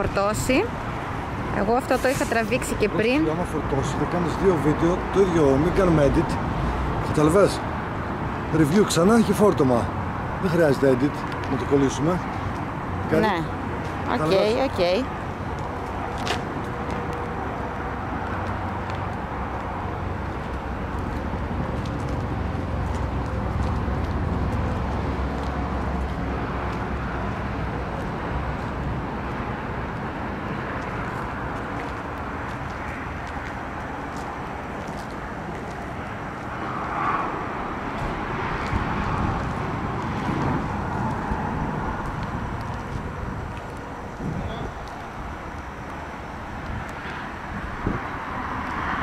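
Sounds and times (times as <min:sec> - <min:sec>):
vehicle traffic noise: 0:00.0 - 0:49.0.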